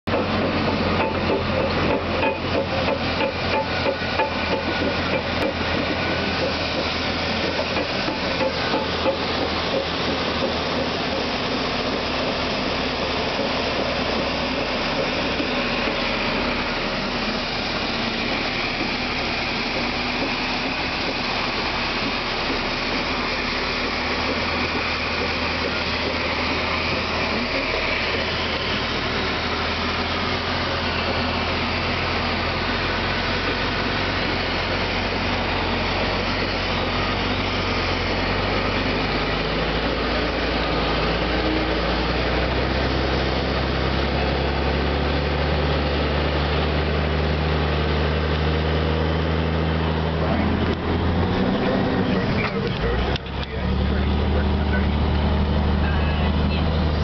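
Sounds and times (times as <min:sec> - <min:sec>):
bulldozer diesel engine drone: 0:00.0 - 0:57.0.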